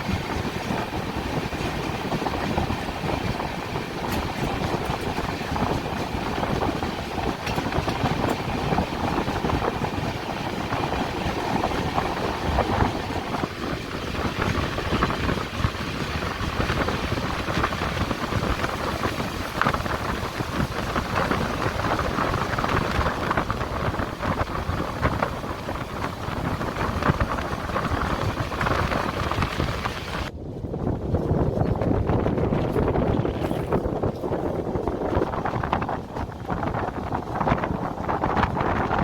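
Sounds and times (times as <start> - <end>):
rushing air: 0.0 - 39.0
train wheels rumbling on rails: 0.0 - 39.0.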